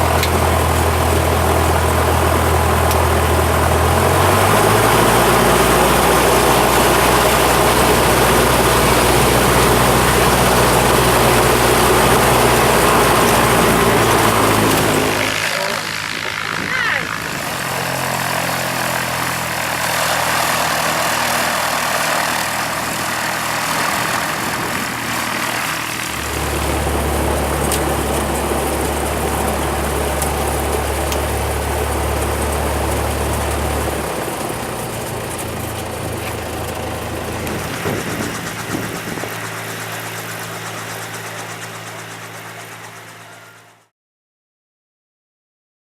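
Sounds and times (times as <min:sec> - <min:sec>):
propeller plane engine running: 0:00.0 - 0:43.9.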